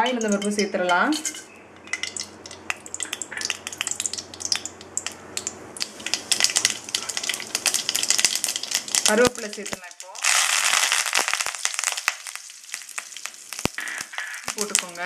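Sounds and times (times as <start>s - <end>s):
seeds sizzling in hot oil: 0.1s - 15.0s
mustard seeds popping: 1.8s - 15.0s.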